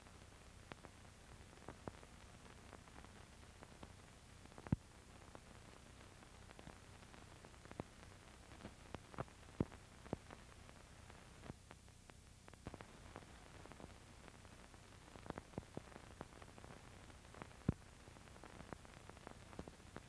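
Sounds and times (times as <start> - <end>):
film hiss and hum: 0.0 - 20.0.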